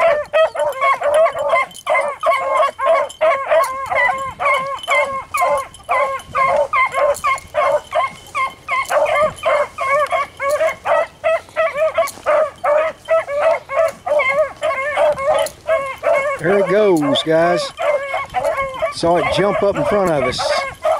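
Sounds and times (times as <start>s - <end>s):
dogs baying: 0.0s - 20.9s.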